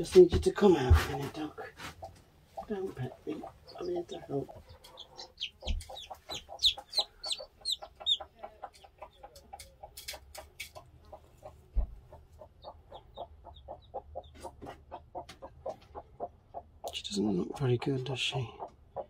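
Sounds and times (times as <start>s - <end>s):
hen clucking: 0.0s - 19.0s
chicks cheeping: 2.0s - 19.0s.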